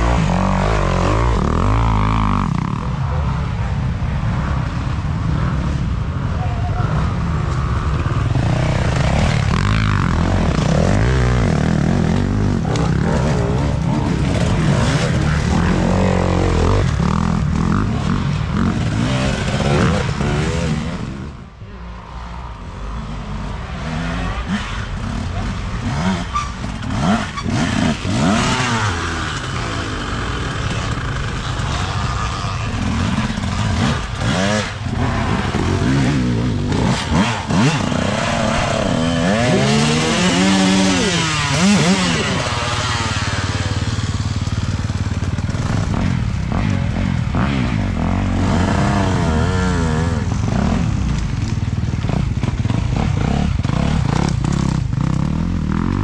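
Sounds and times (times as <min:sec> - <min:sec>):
dirt bikes revving past: 0:00.0 - 0:56.0.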